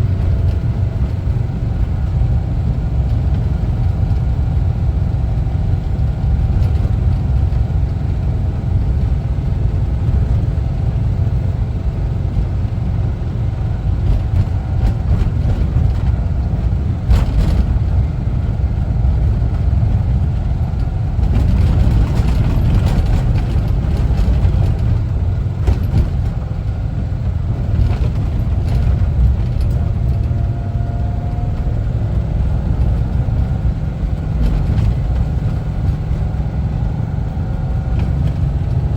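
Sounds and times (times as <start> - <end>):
van engine rumbling: 0.0 - 38.9.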